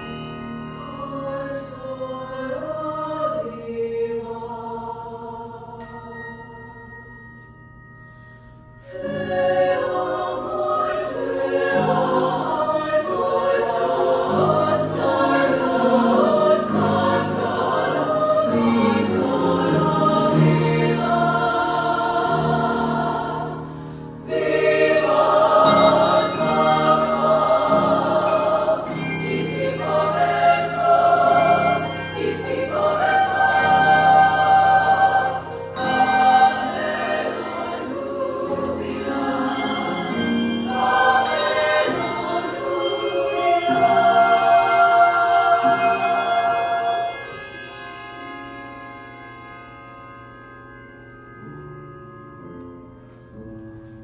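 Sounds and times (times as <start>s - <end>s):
women's choir singing: 0.6s - 6.2s, 8.8s - 47.3s.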